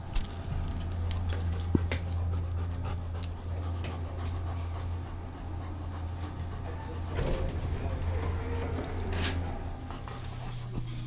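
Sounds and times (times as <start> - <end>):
steady low hum: 0.0 - 11.0
dog panting: 0.2 - 11.0.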